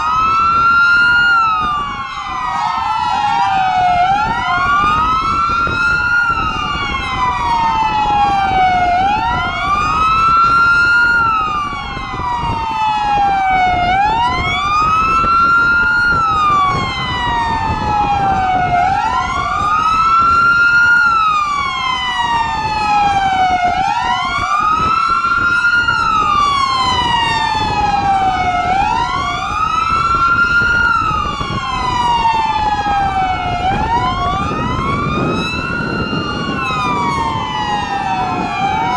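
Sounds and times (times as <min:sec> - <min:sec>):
police sirens wailing: 0:00.0 - 0:38.9
road noise of moving vehicles: 0:00.0 - 0:38.9.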